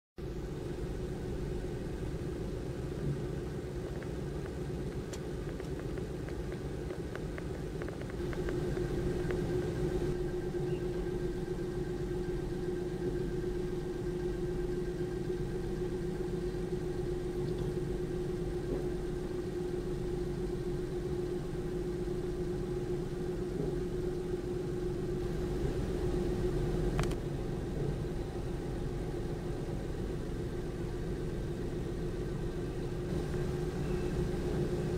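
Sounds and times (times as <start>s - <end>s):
constant humming tone: 0.2s - 34.9s
idling engines and machinery: 0.2s - 34.9s.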